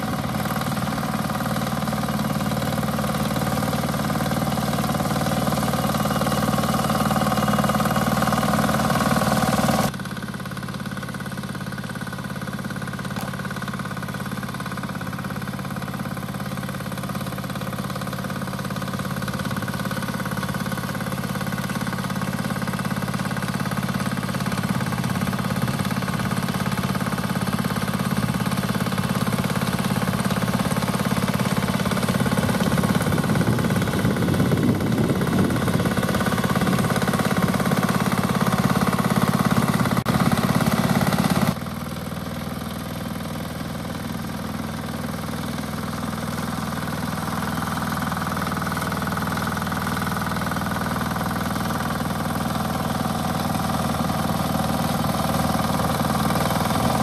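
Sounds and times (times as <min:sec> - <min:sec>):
diesel engine running: 0:00.0 - 0:57.0
sickle bar mower cutting: 0:00.0 - 0:57.0.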